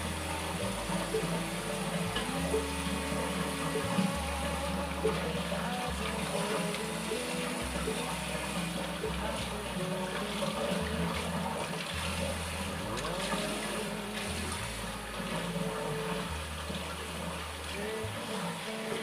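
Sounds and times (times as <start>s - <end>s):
water running from tap: 0.0s - 19.0s.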